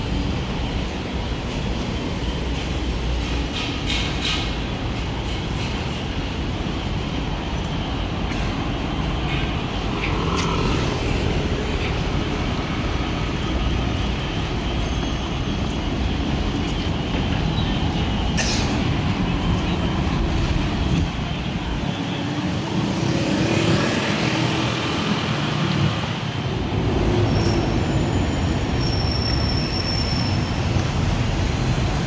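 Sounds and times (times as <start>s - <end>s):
passing vehicles rumbling: 0.0s - 32.0s.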